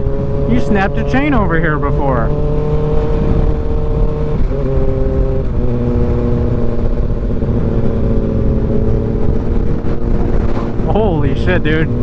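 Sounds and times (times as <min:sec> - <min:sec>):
motorcycle engine cruising: 0:00.0 - 0:12.0
wind rumbling on microphone: 0:00.0 - 0:12.0.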